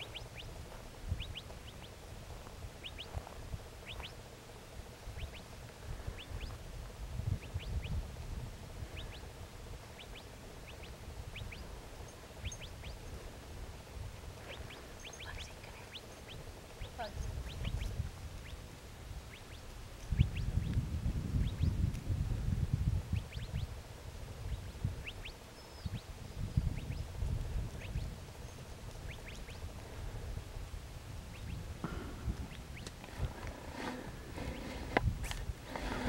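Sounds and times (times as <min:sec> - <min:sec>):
small birds chirping: 0:00.0 - 0:13.6, 0:14.2 - 0:21.9, 0:23.0 - 0:30.4, 0:31.2 - 0:35.1.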